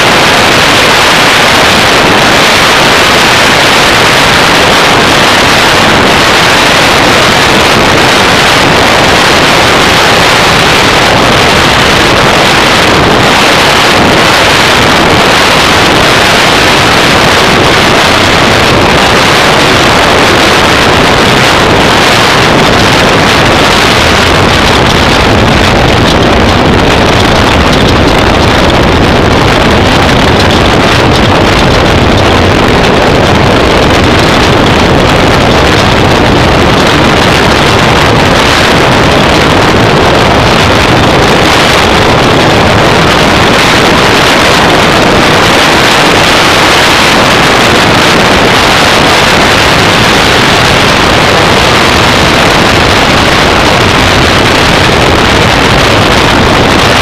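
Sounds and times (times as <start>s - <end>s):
race vehicle engine roar: 0.0s - 57.0s
wind noise on microphone: 0.0s - 57.0s.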